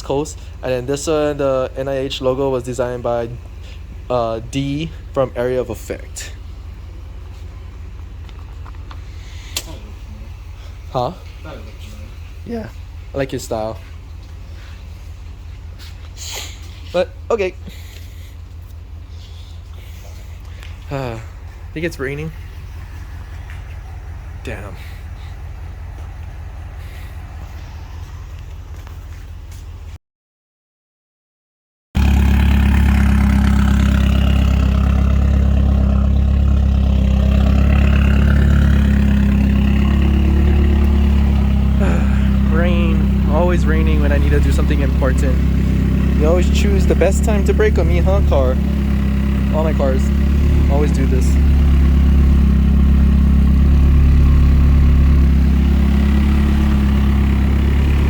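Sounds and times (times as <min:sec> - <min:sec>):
car engine idling: 0:00.0 - 0:30.0, 0:32.0 - 0:58.0.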